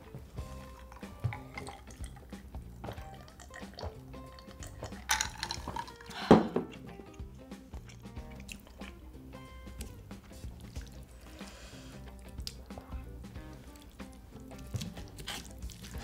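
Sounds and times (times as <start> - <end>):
soft background music: 0.0 - 16.0
swallowing gulps: 0.4 - 16.0.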